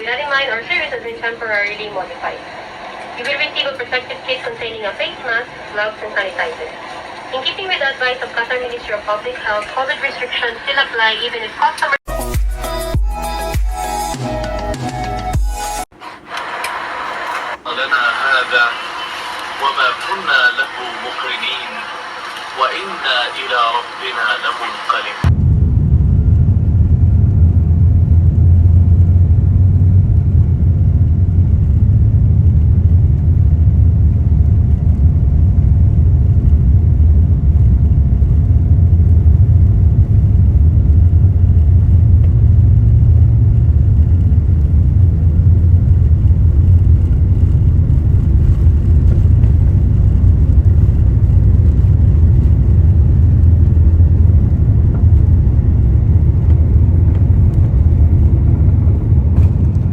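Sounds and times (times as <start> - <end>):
jet cabin engine rumble: 0.0 - 12.0, 15.9 - 59.9.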